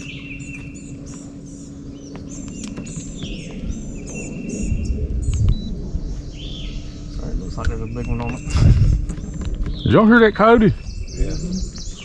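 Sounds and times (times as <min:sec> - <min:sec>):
low rumble: 0:00.0 - 0:12.0
songbirds chirping: 0:00.0 - 0:12.0
steady low hum: 0:00.0 - 0:12.0.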